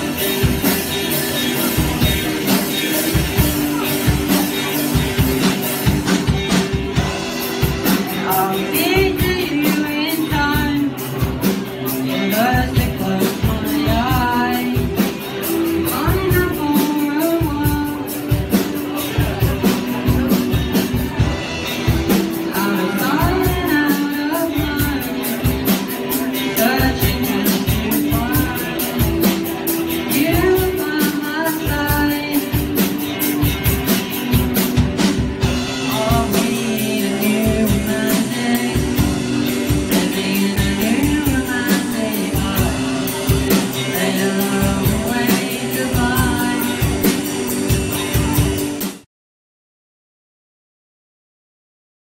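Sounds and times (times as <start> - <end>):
young man singing: 0.0 - 48.8
electric guitars: 0.0 - 49.0
driving drum beat: 0.0 - 49.1.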